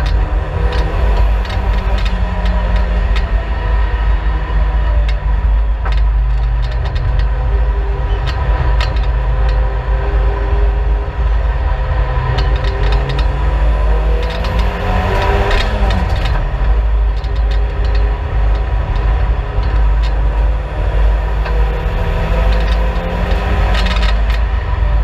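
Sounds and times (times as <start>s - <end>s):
low rumble of road noise: 0.0s - 25.0s
race car engine running: 0.0s - 25.0s
sharp clicks and rattles: 0.0s - 25.0s.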